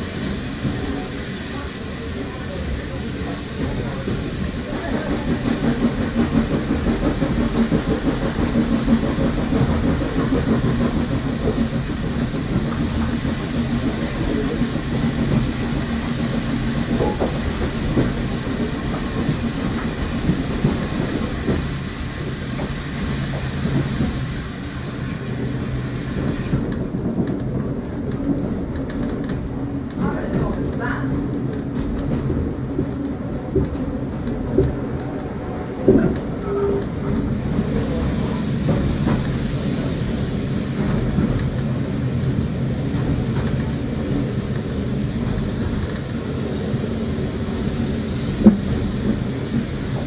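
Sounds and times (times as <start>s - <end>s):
rail-joint clatter: 0.0s - 50.0s
train wheels rumbling on track: 0.0s - 50.0s.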